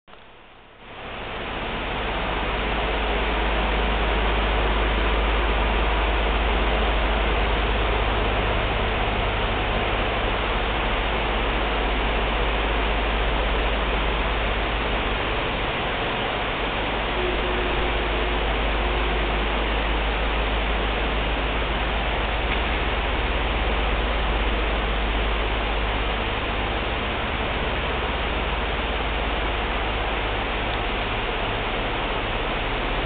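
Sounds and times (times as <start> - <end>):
constant low hum: 0.1 - 33.0
steady rushing noise: 0.1 - 33.0.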